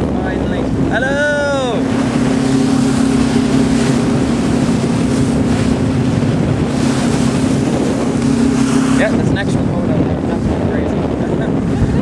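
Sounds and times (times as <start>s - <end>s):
ferry engine humming: 0.0s - 12.0s
water rushing past hull: 0.0s - 12.0s
wind buffeting microphone: 0.0s - 12.0s.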